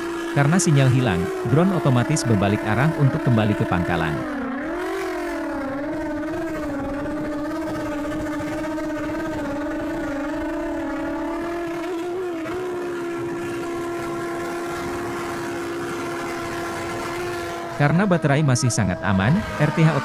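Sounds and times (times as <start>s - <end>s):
drone propellers humming: 0.0s - 20.0s.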